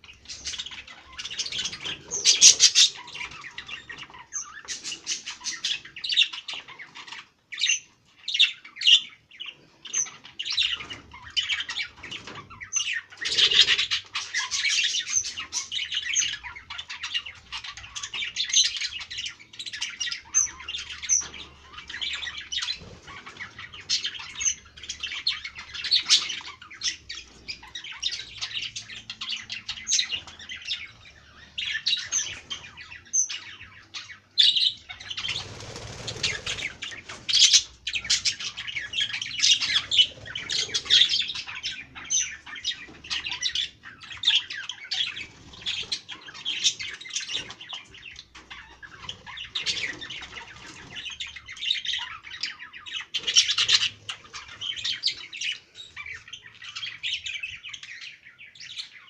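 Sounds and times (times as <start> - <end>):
budgerigars chirping and squawking: 0.0 - 59.0.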